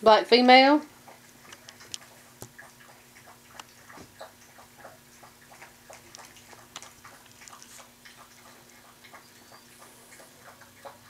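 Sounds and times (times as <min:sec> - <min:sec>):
faint steady hum: 0:00.0 - 0:11.0
puppy claws clicking on tile: 0:01.0 - 0:11.0.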